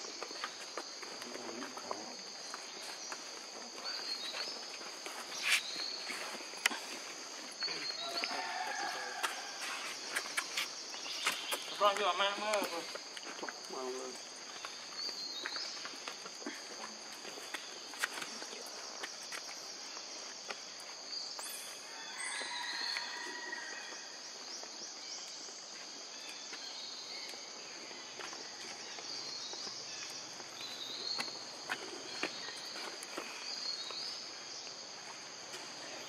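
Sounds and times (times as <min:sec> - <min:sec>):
insect chorus drone: 0:00.0 - 0:36.0.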